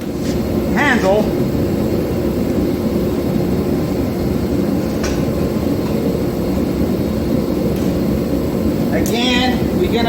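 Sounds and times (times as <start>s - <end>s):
gas forge burner roaring: 0.0s - 10.0s.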